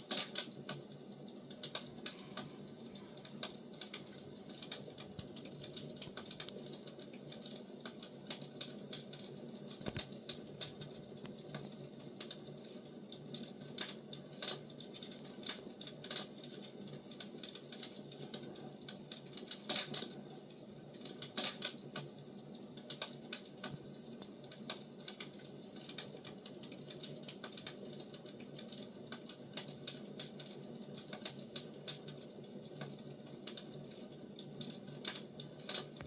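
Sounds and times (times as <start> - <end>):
fire hissing: 0.0 - 32.6
firewood crackling and popping: 0.0 - 36.0.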